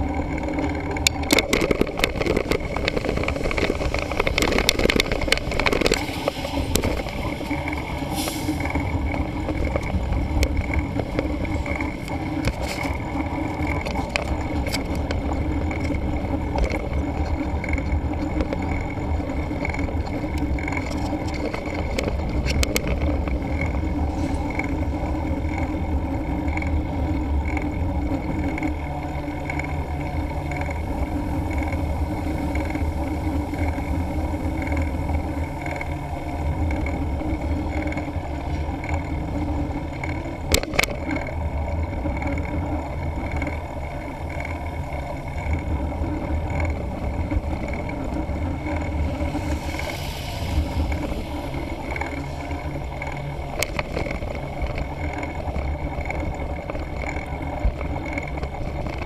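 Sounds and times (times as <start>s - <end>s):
bike tyre rumble: 0.0s - 59.0s
sharp rattles: 0.0s - 59.0s
wind: 0.0s - 59.0s.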